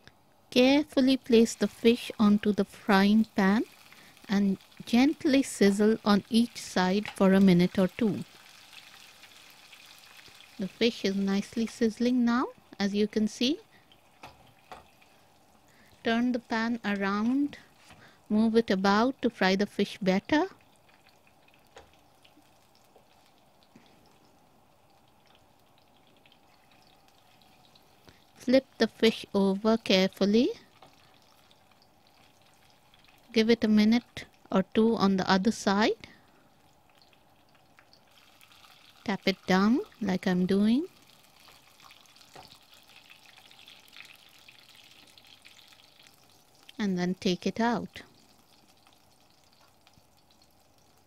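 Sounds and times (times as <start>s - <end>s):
fish sizzling in hot oil: 0.6s - 51.0s.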